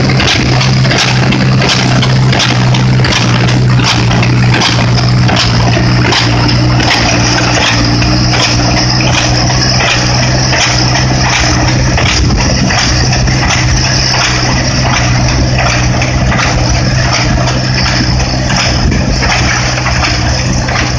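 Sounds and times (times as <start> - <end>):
baler chains rattling: 0.0 - 20.9
tractor engine drone: 0.0 - 20.9.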